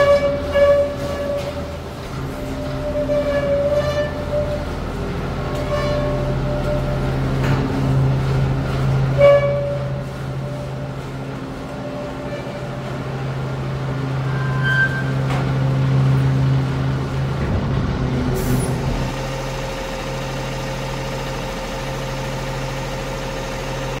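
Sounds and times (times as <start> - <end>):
diesel truck engine droning: 0.0 - 24.0.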